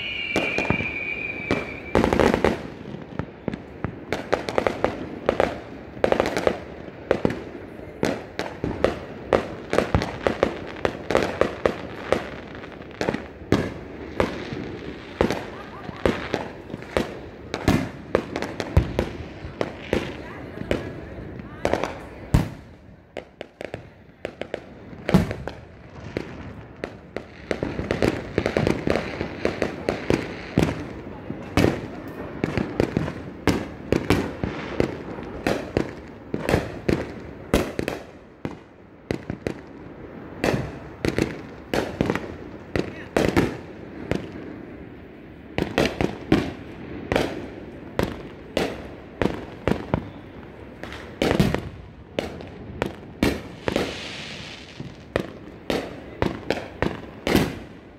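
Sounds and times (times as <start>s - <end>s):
fireworks bangs: 0.0s - 57.9s
fireworks rumble and crackle: 0.0s - 57.9s.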